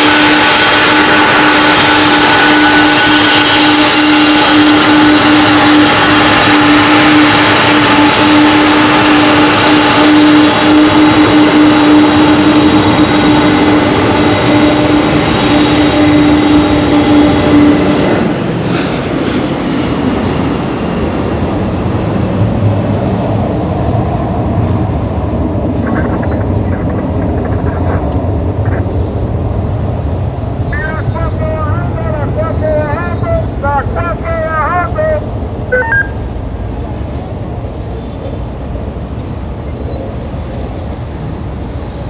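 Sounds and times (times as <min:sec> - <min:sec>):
jet engines droning roar: 0:00.0 - 0:42.0.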